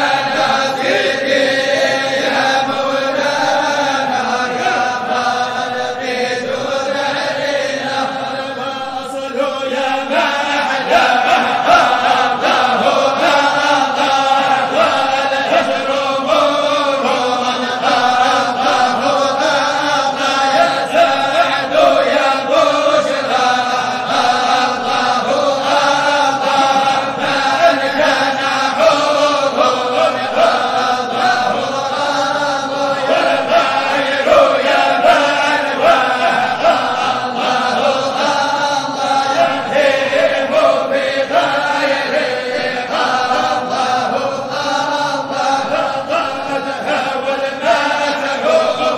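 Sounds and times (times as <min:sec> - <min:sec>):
voices chanting: 0:00.0 - 0:48.9.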